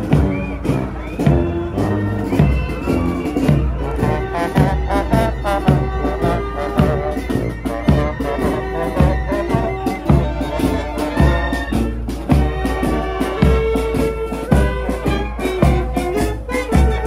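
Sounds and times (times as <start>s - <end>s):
marching band playing: 0.0s - 17.0s
snare drum strokes: 0.0s - 17.0s.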